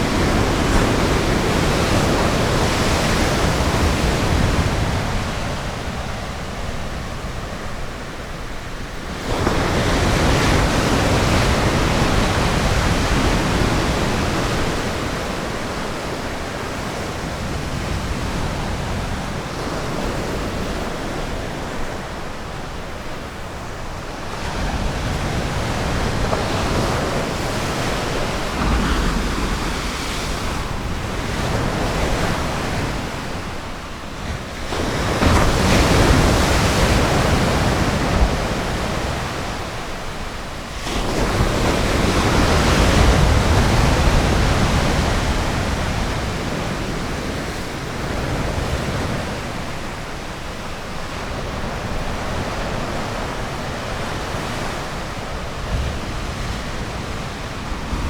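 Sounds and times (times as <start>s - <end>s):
ocean surf breaking: 0.0s - 58.0s
wind on microphone: 0.0s - 58.0s.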